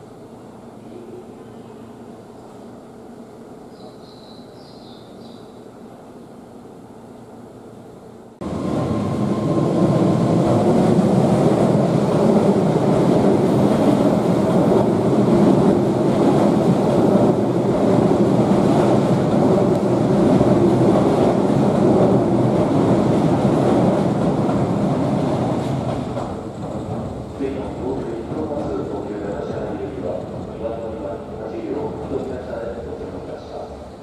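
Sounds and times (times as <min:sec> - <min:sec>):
electric train rumbling on tracks: 0:00.0 - 0:34.0.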